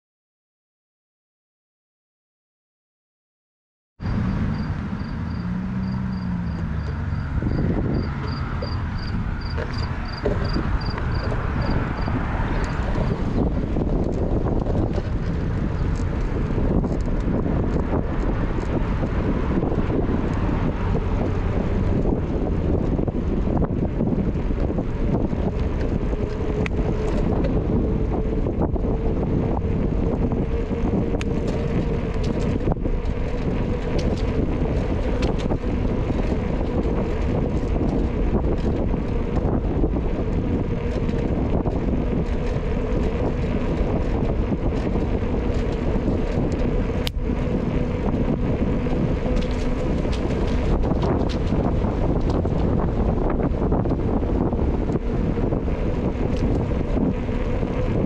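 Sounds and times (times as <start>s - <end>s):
wind rushing over microphone: 4.0s - 58.0s.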